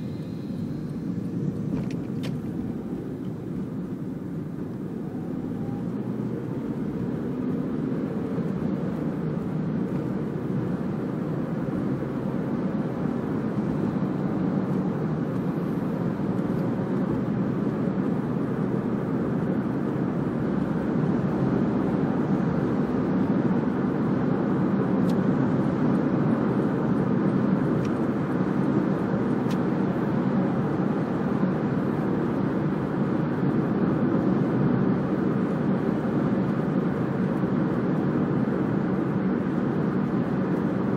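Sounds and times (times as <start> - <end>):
car cabin road and engine rumble: 0.0 - 40.9.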